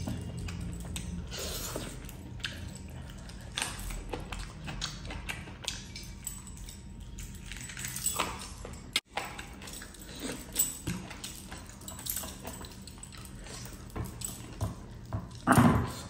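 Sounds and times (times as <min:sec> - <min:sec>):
wet chewing and lip-smacking: 0:00.0 - 0:15.4.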